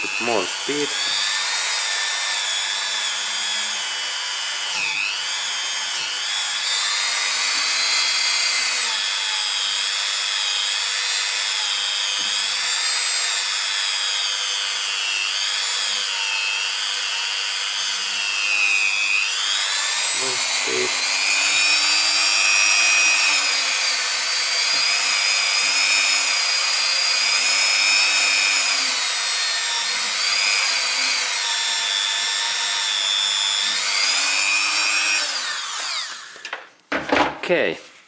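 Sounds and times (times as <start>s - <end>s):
rotary tool whine: 0.0s - 36.6s.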